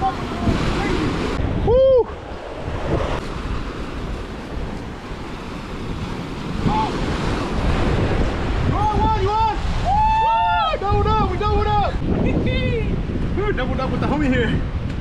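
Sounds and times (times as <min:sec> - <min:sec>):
waves breaking over rocks: 0:00.0 - 0:15.0
wind buffeting microphone: 0:00.0 - 0:15.0.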